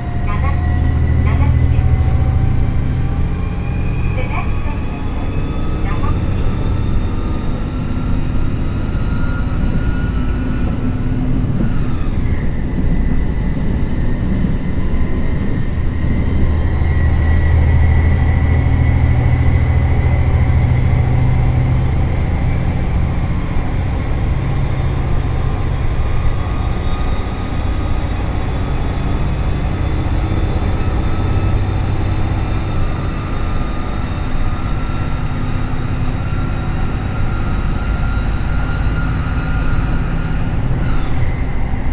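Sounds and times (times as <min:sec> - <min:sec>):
diesel engine under acceleration: 0:00.0 - 0:41.9
transmission gear whine: 0:00.0 - 0:41.9.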